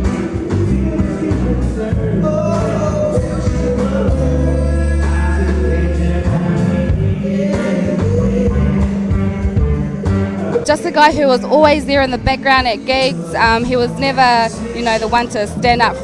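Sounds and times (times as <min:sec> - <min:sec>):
live band music: 0:00.0 - 0:16.0
two men singing: 0:00.0 - 0:16.0.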